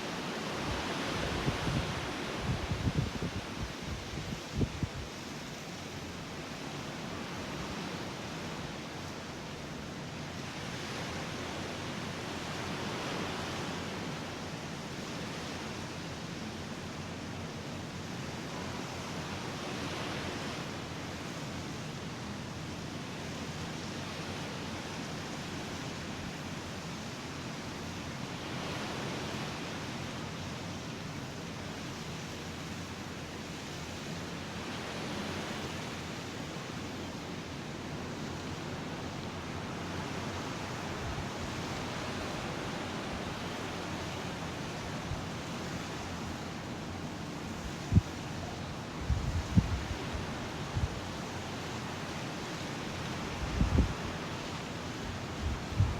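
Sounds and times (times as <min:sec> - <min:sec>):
ocean surf on a beach: 0:00.0 - 0:55.9.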